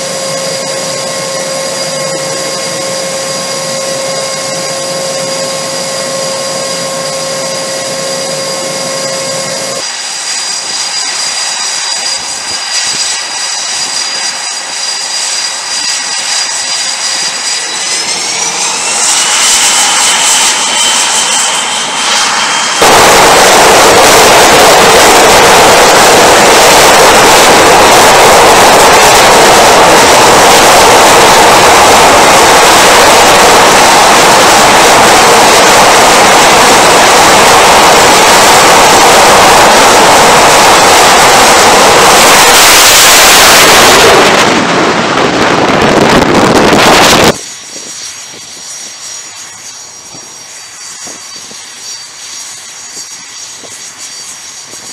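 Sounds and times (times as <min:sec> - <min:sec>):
jet engines at full power: 0:00.0 - 0:54.9.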